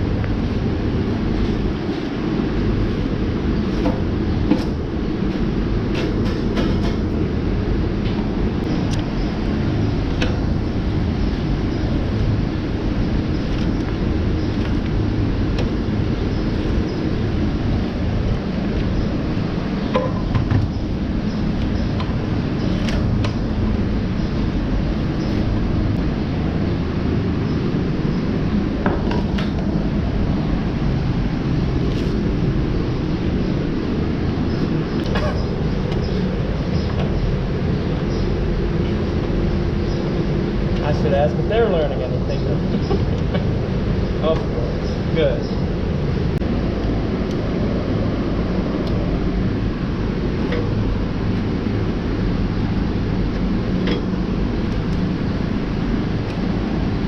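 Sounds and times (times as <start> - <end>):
machinery low rumble: 0.0 - 57.0.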